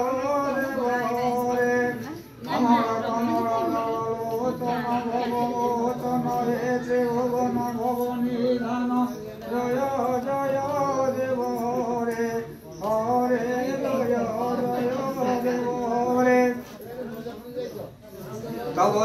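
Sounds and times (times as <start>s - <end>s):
priest chanting in sung tones: 0.0s - 16.8s.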